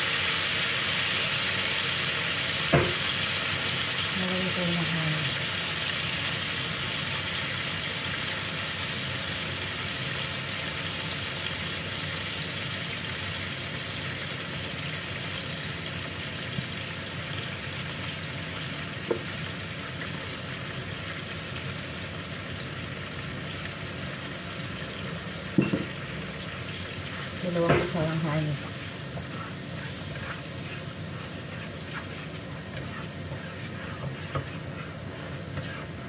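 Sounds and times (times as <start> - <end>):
garlic sizzling in oil: 0.0 - 36.0.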